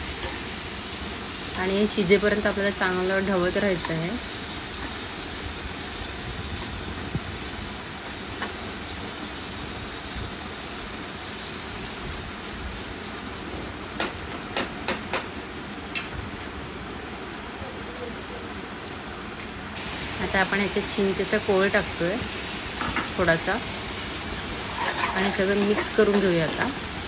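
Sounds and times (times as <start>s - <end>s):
vegetables sizzling in hot oil: 0.0s - 27.0s.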